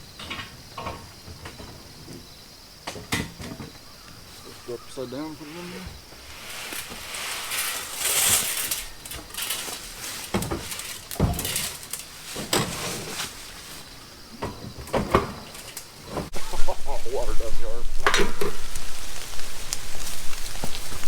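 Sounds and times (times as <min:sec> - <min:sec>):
equipment rustling and scraping: 0:03.4 - 0:21.0.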